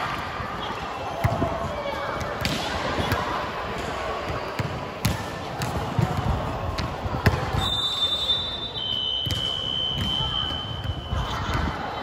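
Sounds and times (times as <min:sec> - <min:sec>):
chatter of many voices: 0:00.0 - 0:12.0.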